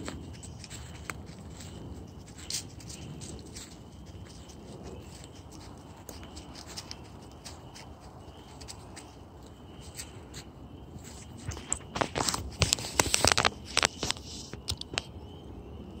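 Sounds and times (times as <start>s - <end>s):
sharp clicks and rustles: 0.0s - 15.1s
frogs trilling: 0.0s - 16.0s.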